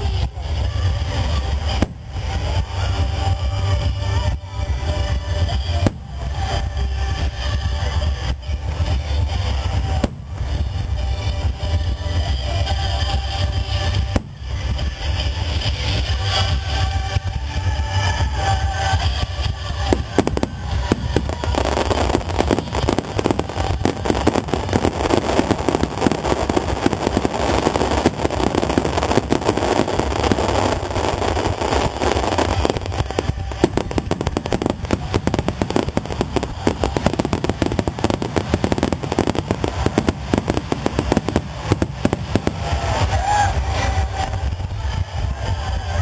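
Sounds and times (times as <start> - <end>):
aerial fireworks exploding: 0.0 - 46.0.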